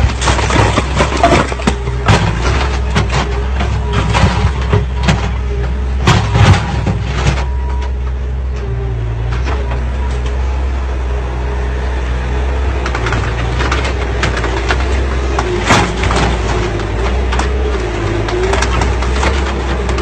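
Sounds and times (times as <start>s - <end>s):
knocks and clanks: 0.0s - 10.4s, 12.7s - 20.0s
heavy vehicle engine humming: 0.0s - 20.0s.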